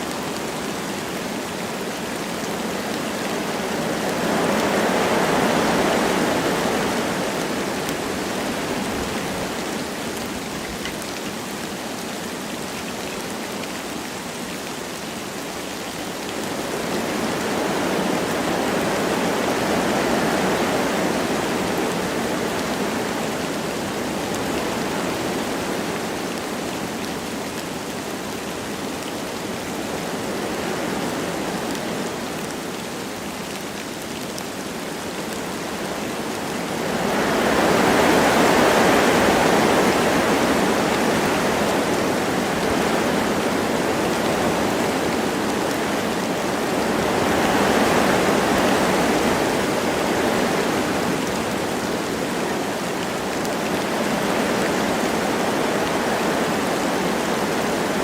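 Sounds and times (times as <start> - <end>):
light rain: 0.0 - 58.0
wind blowing through trees: 0.0 - 58.0.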